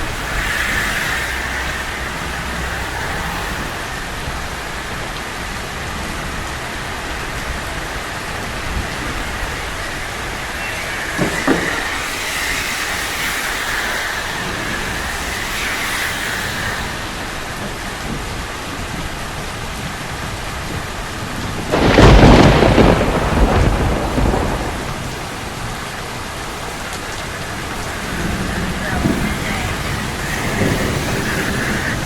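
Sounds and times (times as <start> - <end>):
rain on a street: 0.0 - 32.0
thunderclap rumbling: 0.0 - 32.0.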